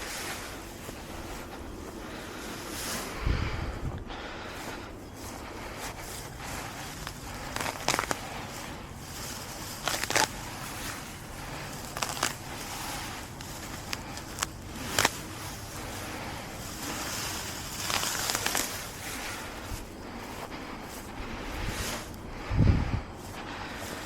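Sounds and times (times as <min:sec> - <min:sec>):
grass being pulled up: 0:00.0 - 0:24.0.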